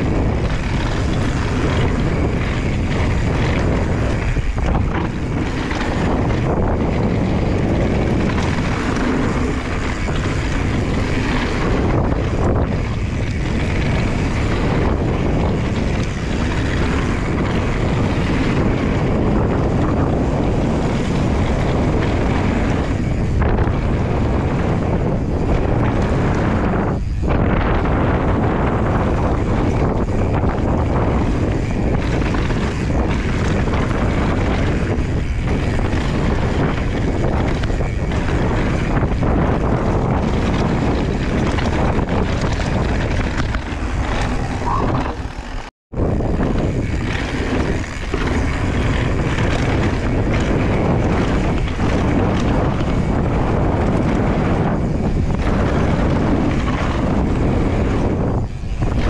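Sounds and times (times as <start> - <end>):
bike tyres rolling on dirt: 0.0 - 59.0
wind rush on microphone: 0.0 - 59.0.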